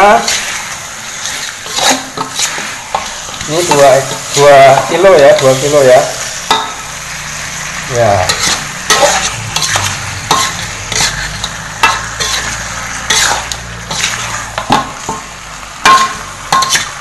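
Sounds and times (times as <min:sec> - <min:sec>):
scraping in a pan: 0:00.0 - 0:05.7, 0:08.1 - 0:15.2, 0:15.8 - 0:17.0
chicken sizzling in a pan: 0:00.0 - 0:17.0.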